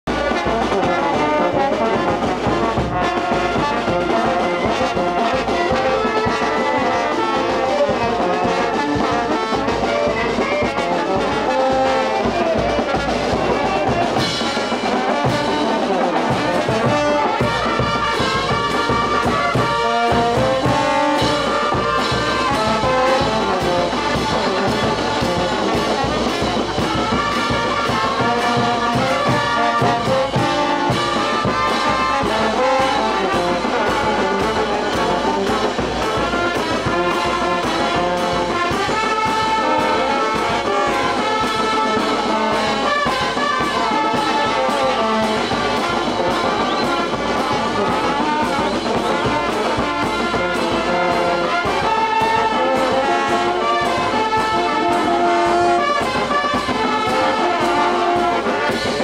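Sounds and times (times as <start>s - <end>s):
trumpets and brass playing tune: 0.0s - 59.0s
bass drum and snare beat: 0.1s - 59.0s
cymbals: 0.1s - 59.0s.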